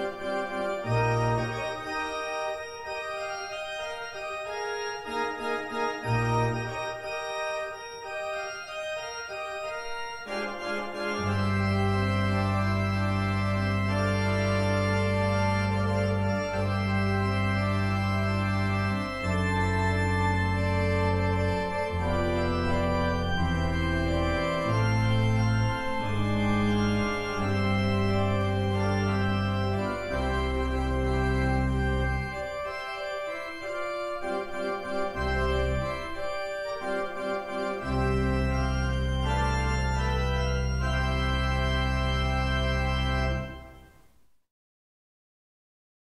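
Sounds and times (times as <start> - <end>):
church organ chords: 0.0 - 44.0.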